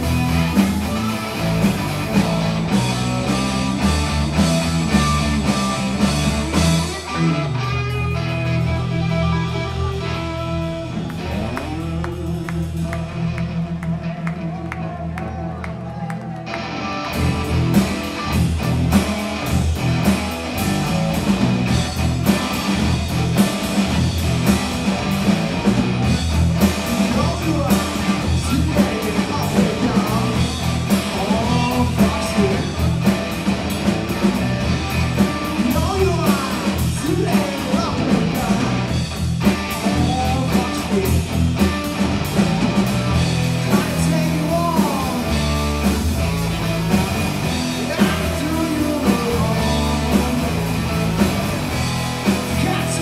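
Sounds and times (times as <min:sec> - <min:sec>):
blues-rock band playing: 0:00.0 - 0:53.0.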